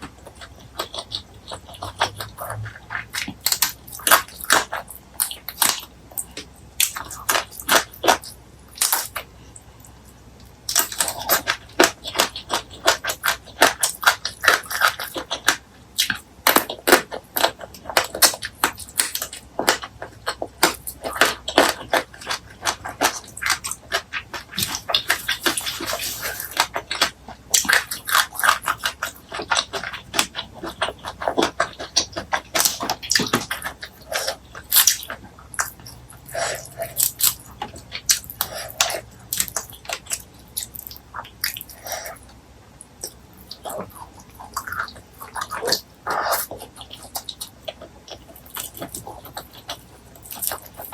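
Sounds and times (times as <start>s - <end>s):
chewing with wet mouth clicks: 0.0s - 50.9s.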